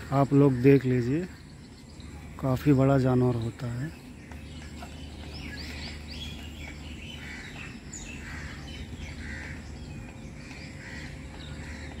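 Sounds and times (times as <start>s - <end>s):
birds chirping and calling: 0.0s - 12.0s
low outdoor background rumble: 0.0s - 12.0s.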